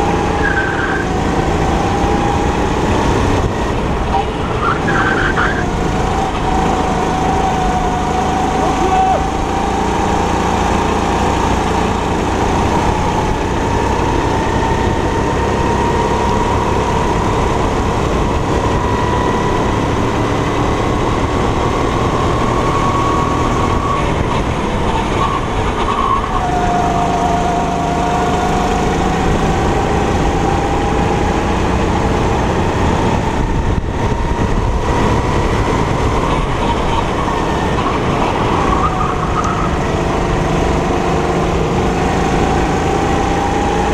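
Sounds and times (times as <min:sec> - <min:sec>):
go-kart engine running hard: 0:00.0 - 0:43.9.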